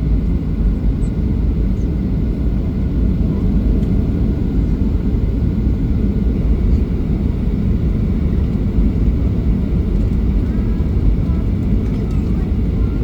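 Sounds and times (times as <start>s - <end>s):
airliner engines rumbling in cabin: 0.0s - 13.0s.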